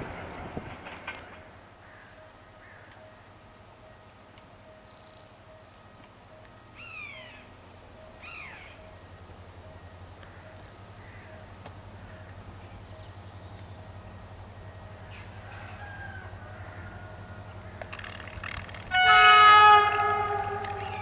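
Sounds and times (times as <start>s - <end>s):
distant diesel locomotive rumble: 0.0s - 21.0s.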